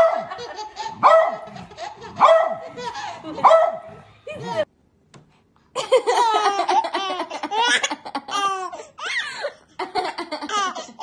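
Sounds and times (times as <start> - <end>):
baby laughing: 0.0 - 4.7, 5.8 - 11.0.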